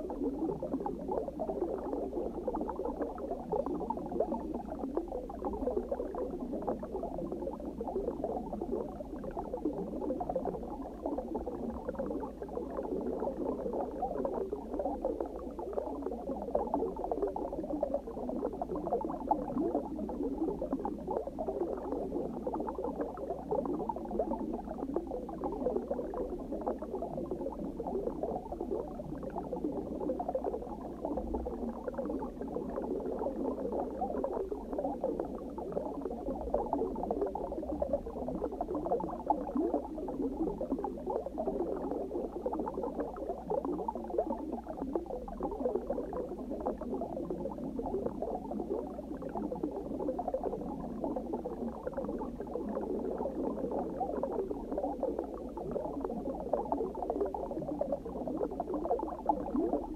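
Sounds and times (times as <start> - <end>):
dense underwater bubbling: 0.0 - 59.9.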